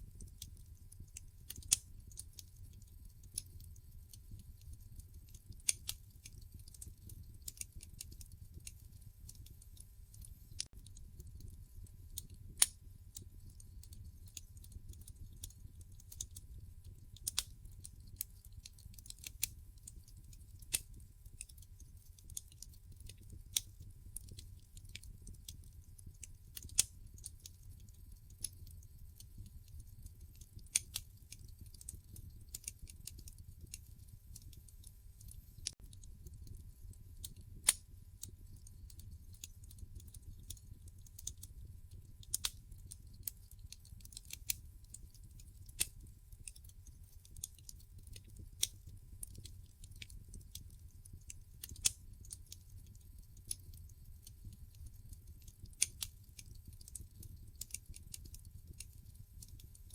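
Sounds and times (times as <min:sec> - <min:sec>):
low rumble of flames: 0:00.0 - 0:55.0
logs crackling and popping: 0:00.1 - 0:59.9.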